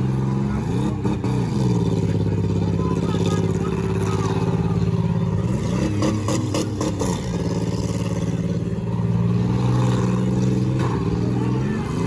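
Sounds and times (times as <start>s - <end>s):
car engines running loudly: 0.0s - 12.0s
engine revving: 0.0s - 12.0s.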